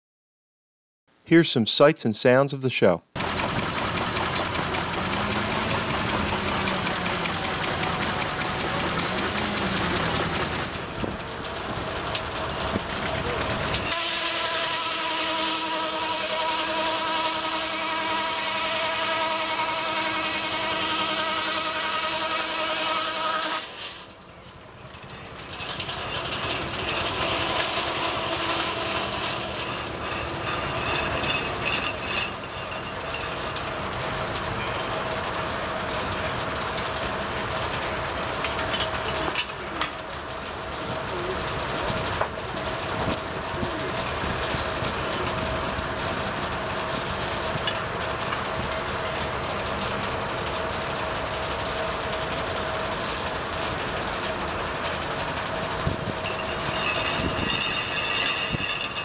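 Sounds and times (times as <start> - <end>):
old engines running: 3.2 - 59.0.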